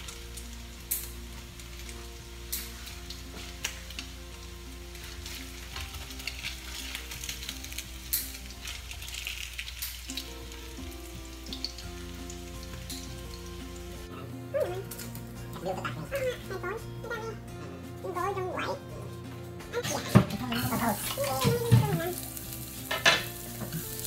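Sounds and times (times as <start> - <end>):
patties sizzling in oil: 0.0 - 18.8, 19.8 - 24.0.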